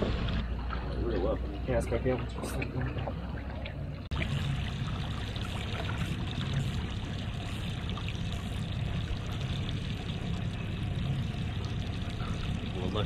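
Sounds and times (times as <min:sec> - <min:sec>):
low steady drone: 0:00.0 - 0:13.0
water rushing along boat hull: 0:00.0 - 0:13.0.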